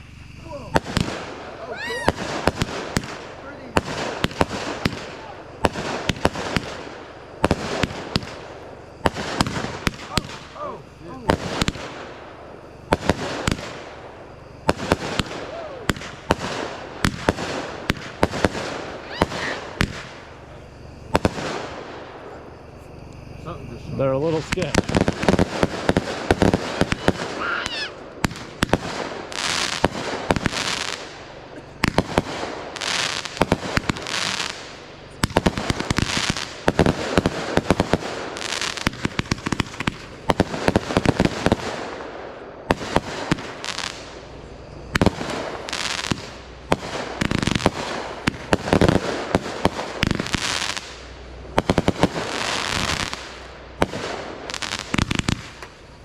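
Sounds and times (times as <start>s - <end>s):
fireworks bangs: 0.0s - 56.0s
fireworks crackling and hissing: 0.0s - 56.0s.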